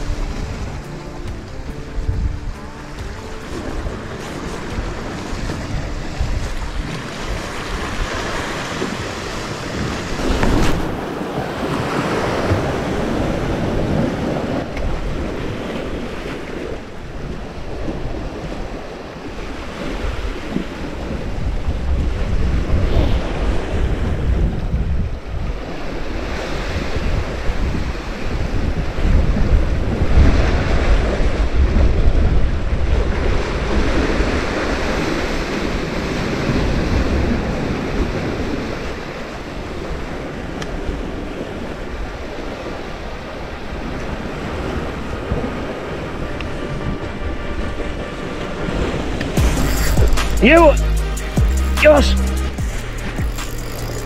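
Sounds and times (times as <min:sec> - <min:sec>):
sea waves washing against rocks: 0:00.0 - 0:49.4
wind buffeting microphone: 0:00.0 - 0:49.4.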